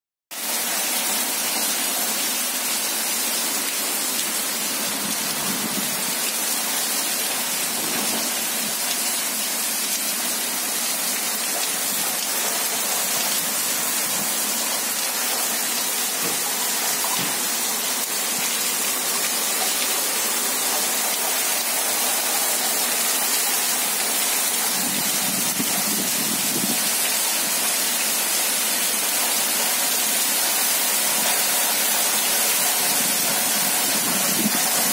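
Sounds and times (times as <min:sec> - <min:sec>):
heavy rain on tiled roofs: 0:00.3 - 0:34.9.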